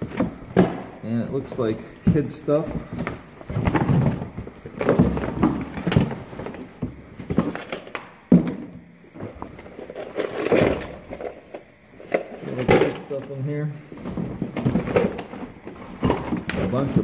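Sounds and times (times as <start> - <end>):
objects knocking together: 0.0 - 1.0, 1.6 - 13.4, 14.0 - 17.0
cardboard flaps rustling: 0.0 - 13.2, 13.9 - 17.0.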